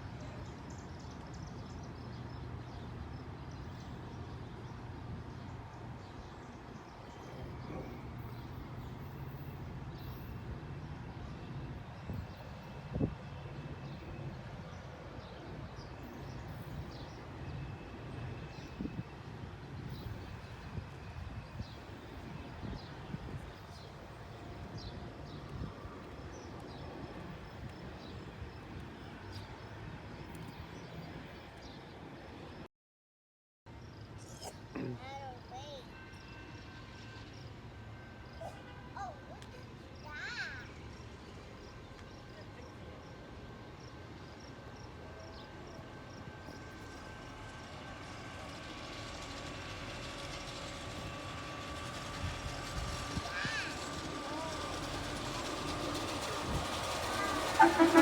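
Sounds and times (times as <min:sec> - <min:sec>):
train rumble and rail noise: 0:00.0 - 0:32.7, 0:33.7 - 0:58.0.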